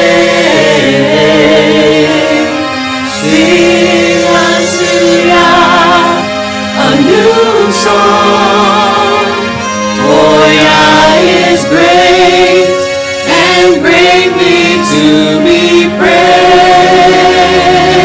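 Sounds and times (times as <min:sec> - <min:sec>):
group singing gospel: 0:00.0 - 0:18.0
low held instrumental notes: 0:00.0 - 0:18.0.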